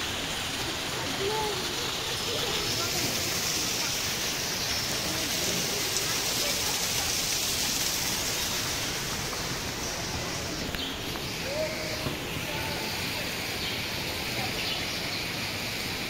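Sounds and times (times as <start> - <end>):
faint voices: 0.0 - 16.0
running and falling water hiss: 0.0 - 16.0.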